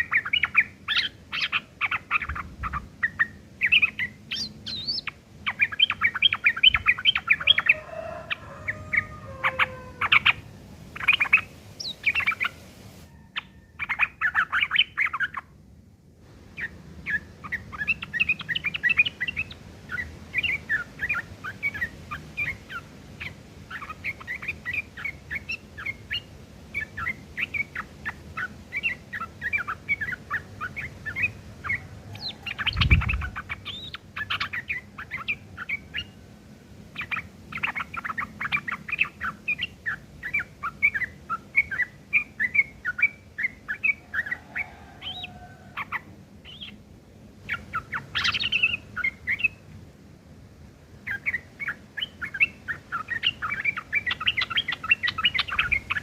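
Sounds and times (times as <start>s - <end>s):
bird singing chattering notes: 0.0s - 7.8s, 8.6s - 12.6s, 13.3s - 15.5s, 16.5s - 36.2s, 36.9s - 46.8s, 47.5s - 49.7s, 51.0s - 56.0s.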